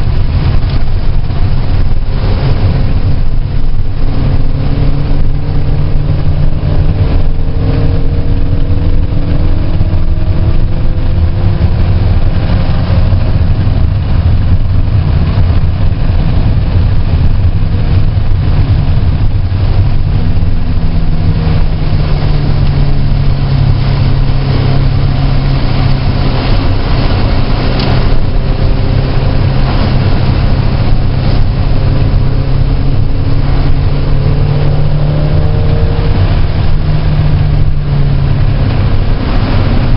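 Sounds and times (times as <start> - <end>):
constant rushing noise: 0.0 - 39.9
race car engine drone: 0.0 - 39.9.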